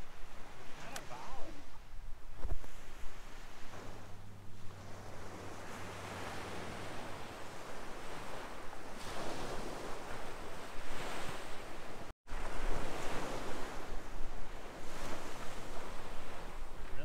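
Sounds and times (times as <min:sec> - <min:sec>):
surf breaking on beach: 0:00.0 - 0:17.0
wind on microphone: 0:00.0 - 0:17.0.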